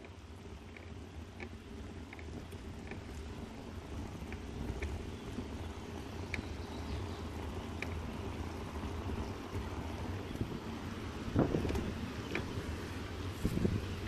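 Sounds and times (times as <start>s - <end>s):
bicycle rumbling: 0.0s - 14.0s.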